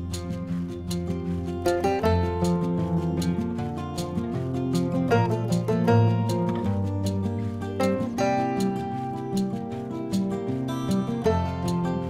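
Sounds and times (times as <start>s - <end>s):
light regular beat: 0.0s - 12.0s
melodic background music: 0.0s - 12.0s.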